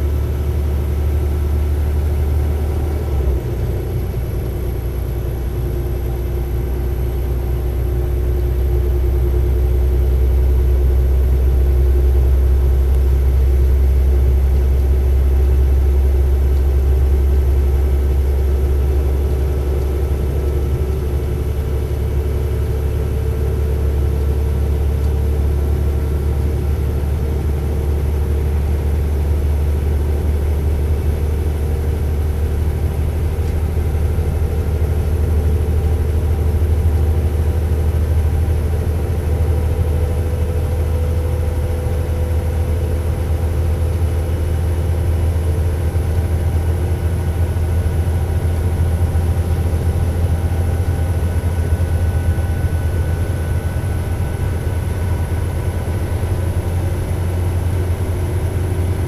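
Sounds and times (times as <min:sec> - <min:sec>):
diesel railcar engine drone: 0:00.0 - 0:59.0.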